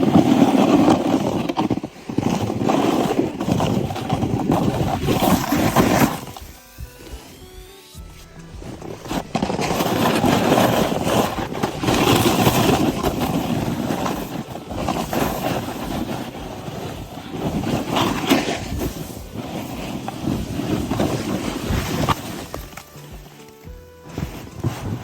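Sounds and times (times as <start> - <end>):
snowboard carving through snow: 0.0 - 25.0.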